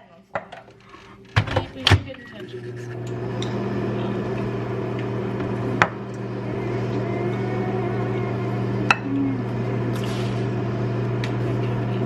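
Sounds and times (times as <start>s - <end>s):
kitchen appliance humming: 0.3s - 12.0s.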